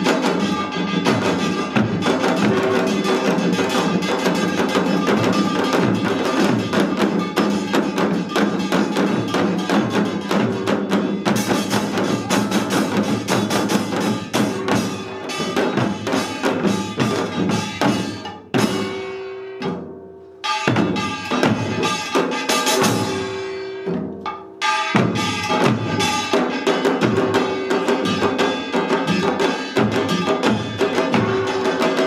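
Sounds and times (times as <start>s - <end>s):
drums in fast dense rhythm: 0.0s - 32.0s
small gongs ringing: 0.0s - 32.0s.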